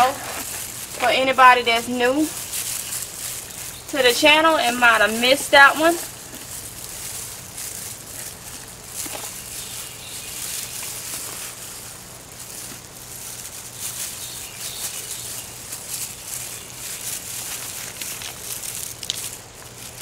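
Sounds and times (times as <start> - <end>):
hands digging through soil: 0.0 - 20.0
steady low hum: 0.0 - 20.0.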